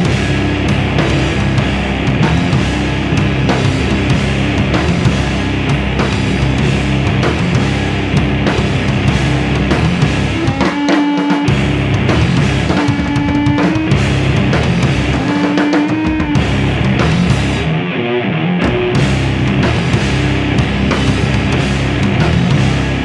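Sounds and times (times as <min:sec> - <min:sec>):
deep bass: 0:00.0 - 0:10.8, 0:11.4 - 0:23.0
distorted electric guitars: 0:00.0 - 0:23.0
drum kit: 0:00.0 - 0:23.0.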